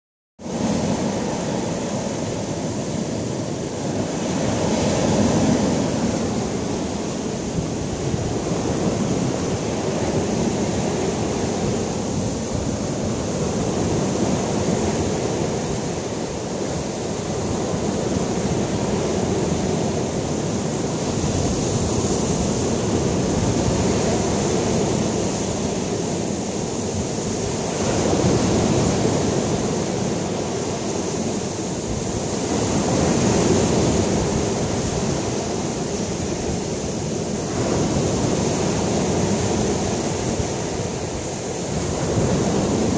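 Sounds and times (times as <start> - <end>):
surf breaking on sandy beach: 0.4 - 42.9.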